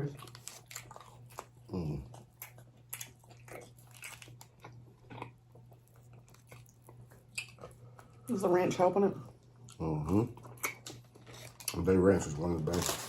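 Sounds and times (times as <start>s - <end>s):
faint low hum: 0.0s - 13.0s
person chewing with crunches: 0.1s - 8.2s, 9.4s - 13.0s.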